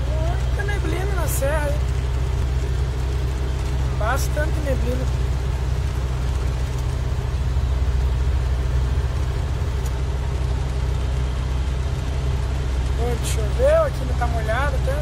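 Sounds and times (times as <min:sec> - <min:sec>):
road noise: 0:00.0 - 0:15.0
truck engine droning: 0:00.0 - 0:15.0.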